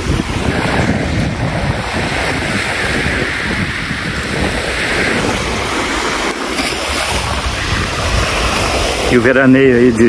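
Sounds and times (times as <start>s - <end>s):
small waves lapping: 0.0s - 10.0s
wind buffeting microphone: 0.0s - 10.0s.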